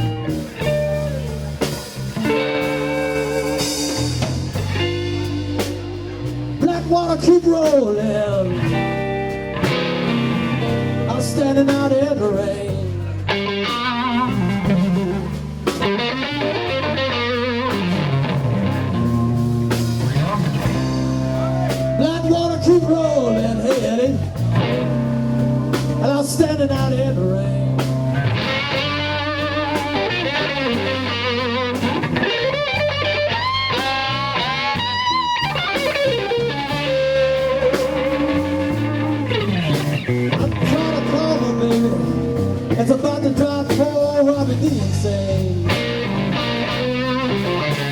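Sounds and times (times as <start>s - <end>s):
blues band playing: 0.0s - 47.9s
drums: 0.0s - 47.9s
electric guitar lead fill: 0.0s - 47.9s.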